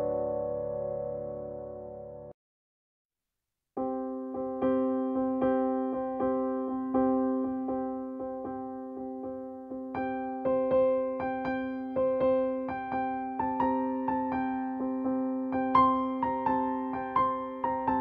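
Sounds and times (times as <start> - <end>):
piano music: 0.0 - 2.4, 3.8 - 18.0.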